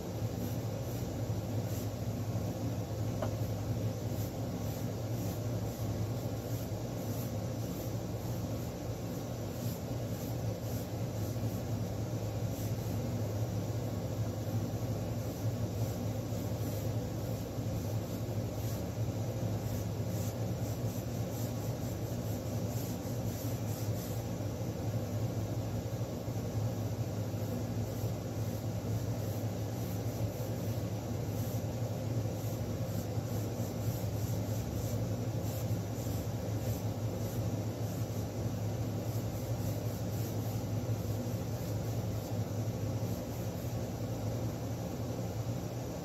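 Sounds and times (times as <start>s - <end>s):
constant noisy hiss: 0.0s - 46.0s.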